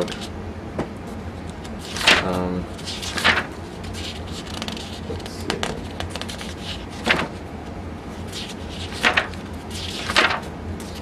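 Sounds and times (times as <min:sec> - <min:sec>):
paper pages turning: 0:00.0 - 0:00.3, 0:01.4 - 0:07.4, 0:08.1 - 0:11.0
steady low hum: 0:00.0 - 0:11.0.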